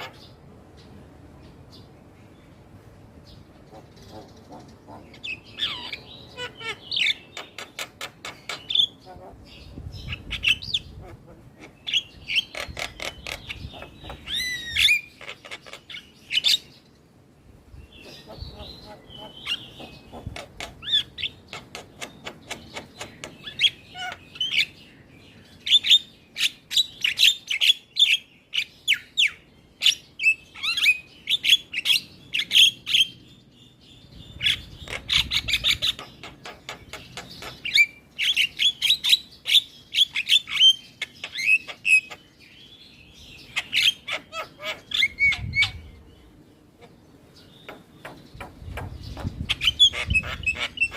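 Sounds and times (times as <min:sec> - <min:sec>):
myna bird chattering song: 0:00.0 - 0:02.6, 0:03.2 - 0:50.9.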